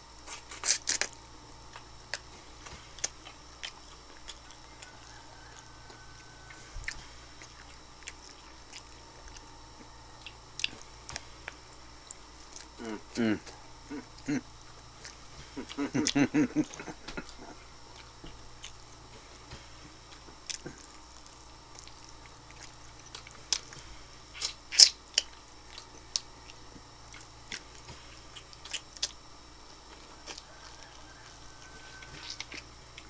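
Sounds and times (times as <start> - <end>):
chewing and biting crunches: 0.0 - 33.0.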